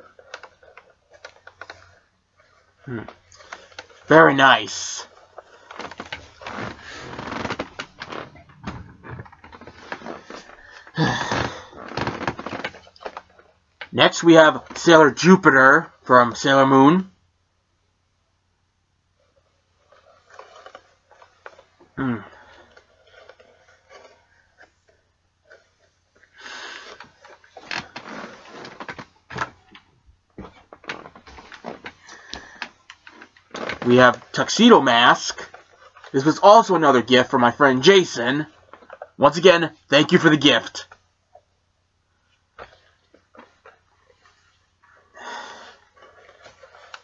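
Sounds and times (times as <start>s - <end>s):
rustling: 0.0s - 16.1s, 19.1s - 39.2s, 39.8s - 47.0s.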